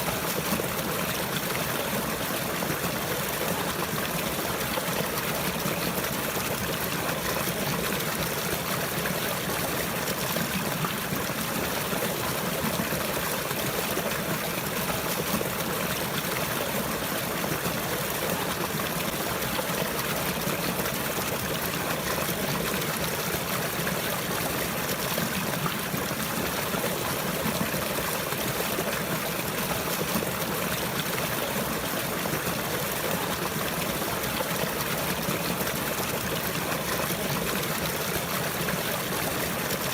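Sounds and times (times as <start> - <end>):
water trickling and flowing: 0.0 - 39.9.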